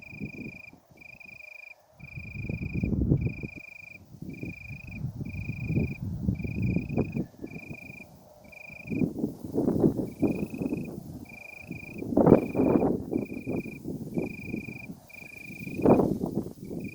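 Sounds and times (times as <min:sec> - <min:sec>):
insect trilling: 0:00.0 - 0:16.9
wind gusting on microphone: 0:00.0 - 0:16.9.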